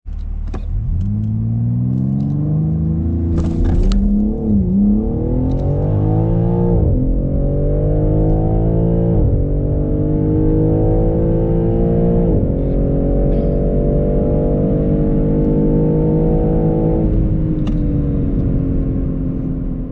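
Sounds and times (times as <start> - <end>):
car engine accelerating: 0.1 - 19.9.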